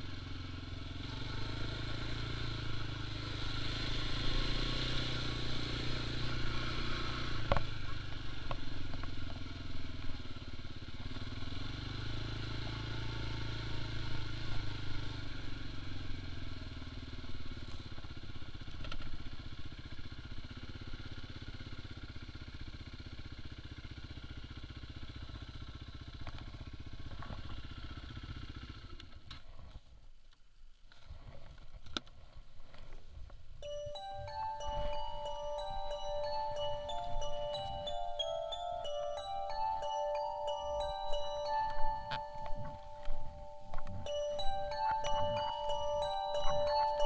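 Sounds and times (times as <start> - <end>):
quad bike engine running: 0.0 - 29.9, 33.6 - 47.0.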